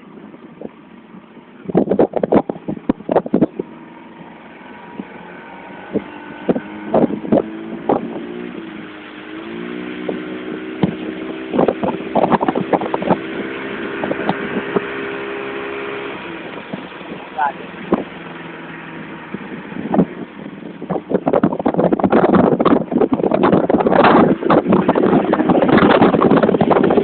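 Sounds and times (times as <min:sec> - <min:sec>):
motor engine running: 0:00.1 - 0:27.0.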